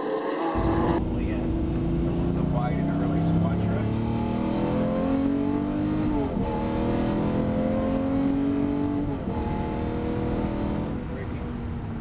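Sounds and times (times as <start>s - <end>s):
sports car engine revving: 0.6s - 11.8s.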